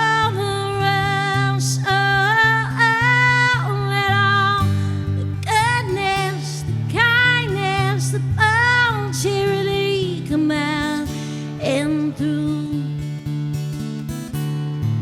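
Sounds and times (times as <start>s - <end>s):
woman singing wavering notes: 0.0s - 13.0s
strummed acoustic guitar: 0.0s - 15.0s.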